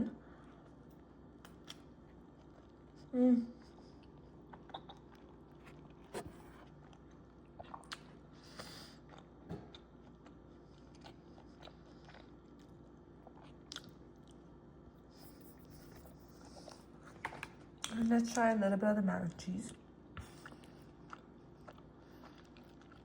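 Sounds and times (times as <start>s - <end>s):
person chewing: 0.5s - 18.4s, 19.7s - 23.0s.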